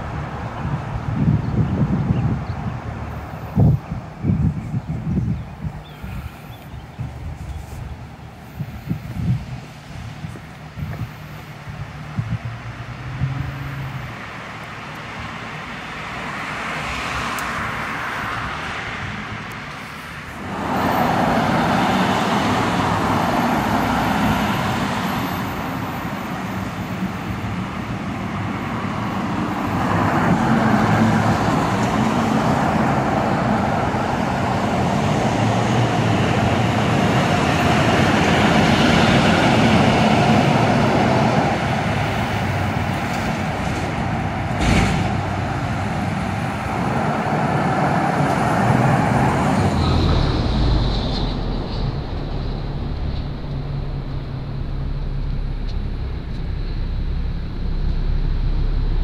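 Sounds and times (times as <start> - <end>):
road traffic passing: 0.0 - 59.0
truck passing: 2.6 - 59.0.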